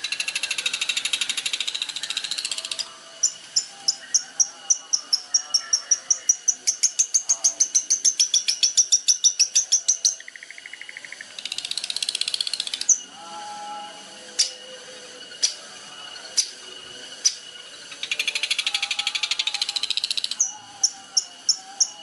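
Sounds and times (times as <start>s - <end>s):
songbird singing trills: 0.0s - 22.0s.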